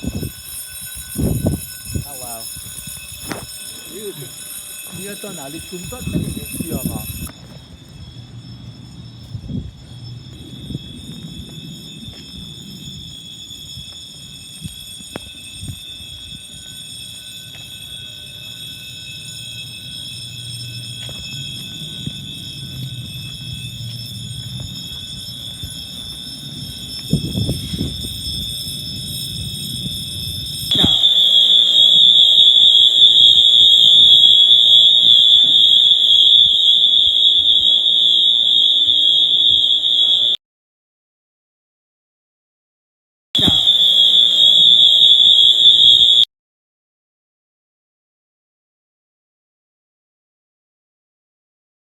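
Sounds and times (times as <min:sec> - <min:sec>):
fire alarm high tone: 0:00.0 - 0:40.4, 0:43.4 - 0:46.3.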